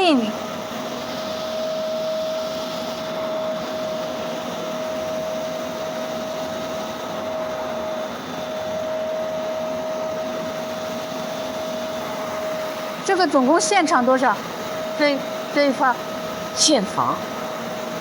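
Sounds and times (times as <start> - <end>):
milling machine spindle whine: 0.0 - 18.0.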